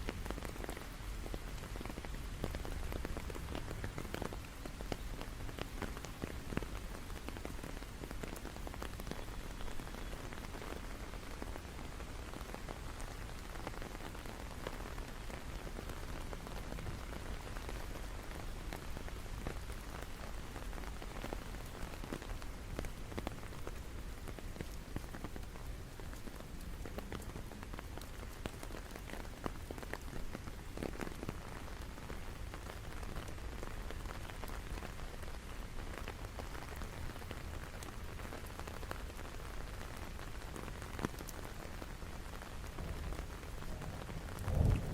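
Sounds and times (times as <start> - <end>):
raindrops ticking: 0.0 - 44.9
steady rain hiss: 0.0 - 44.9.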